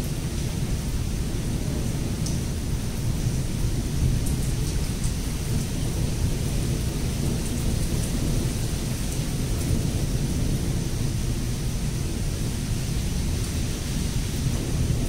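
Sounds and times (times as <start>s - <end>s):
low rumble of thunder: 0.0s - 15.0s.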